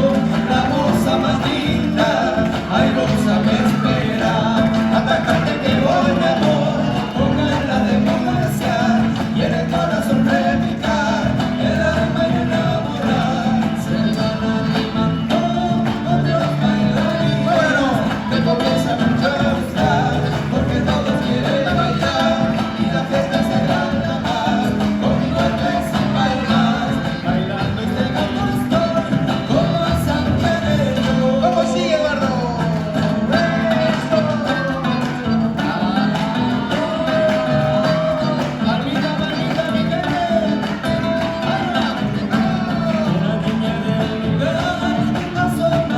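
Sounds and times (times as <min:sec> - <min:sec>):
man singing folk song: 0:00.0 - 0:45.9
strummed acoustic guitar: 0:00.0 - 0:45.9.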